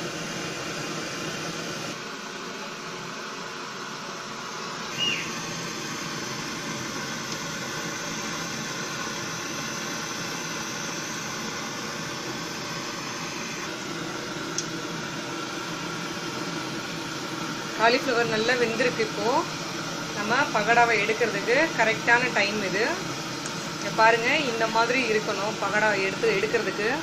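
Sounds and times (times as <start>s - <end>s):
food deep-frying in sizzling oil: 4.4s - 26.9s.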